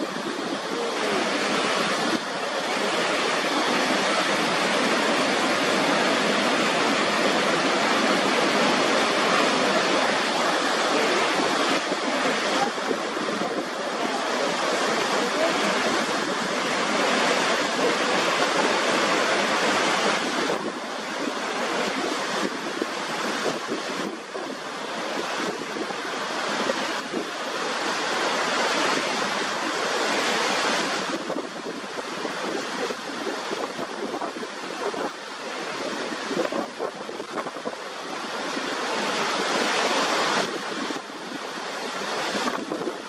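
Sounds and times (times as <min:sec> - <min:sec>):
rushing water: 0:00.0 - 0:43.0.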